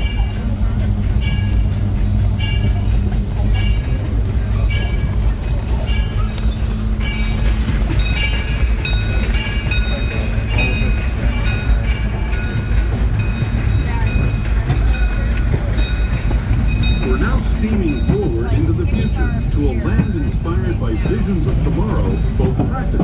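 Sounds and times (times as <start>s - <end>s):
high hiss: 0.0s - 11.7s, 16.1s - 23.0s
train car rumbling and rattling: 0.0s - 23.0s.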